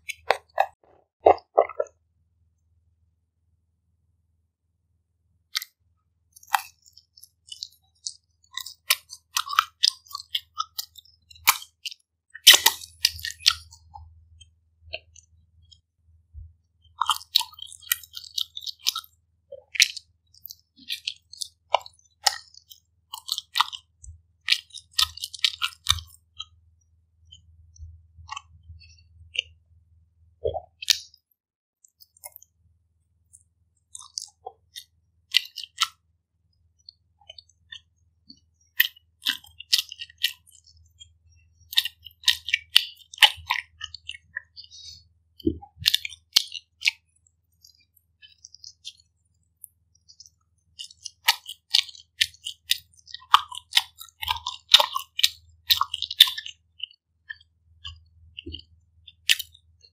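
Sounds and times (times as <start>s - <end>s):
person chewing pizza: 0.0s - 1.9s, 5.6s - 29.6s, 30.4s - 31.2s, 33.3s - 36.0s, 36.6s - 59.9s.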